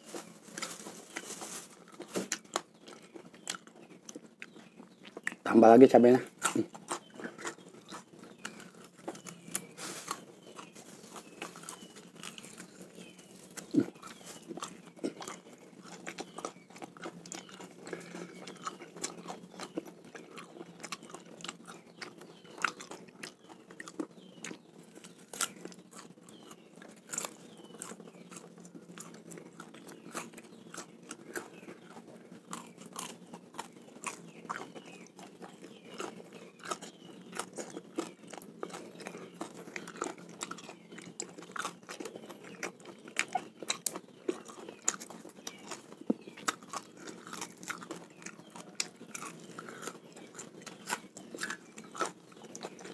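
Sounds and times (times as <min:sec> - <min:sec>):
chewing raw fish: 0:00.0 - 0:52.9.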